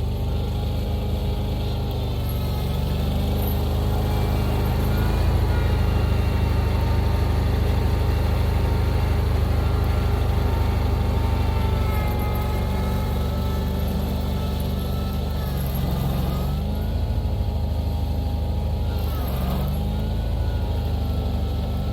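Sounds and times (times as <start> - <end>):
vehicle engine running: 0.0 - 21.9.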